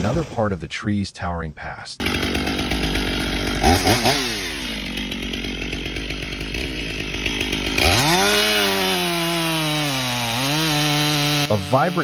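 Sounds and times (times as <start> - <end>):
chainsaw engine revving: 2.0 - 12.0.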